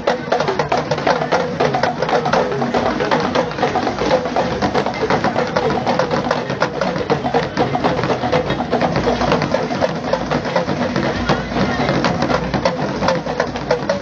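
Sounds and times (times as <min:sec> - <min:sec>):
clacking hand percussion: 0:00.0 - 0:14.0
drums: 0:00.0 - 0:14.0.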